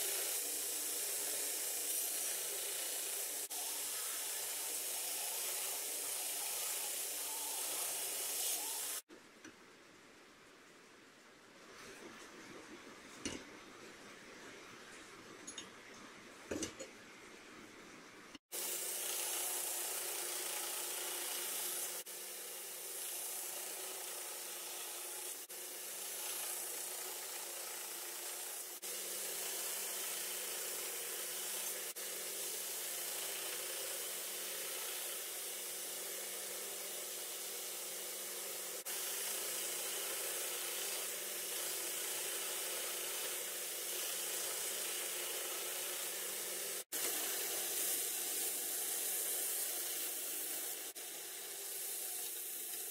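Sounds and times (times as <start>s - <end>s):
belt grinder hissing on metal: 0.0s - 9.1s, 18.4s - 52.9s.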